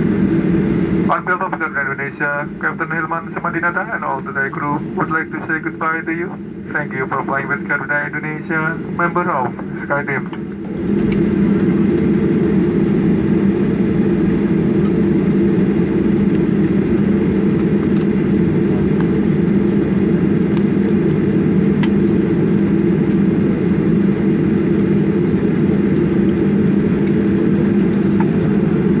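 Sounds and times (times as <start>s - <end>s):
air conditioning: 0.0s - 29.0s
jet engines idling hum: 0.0s - 29.0s.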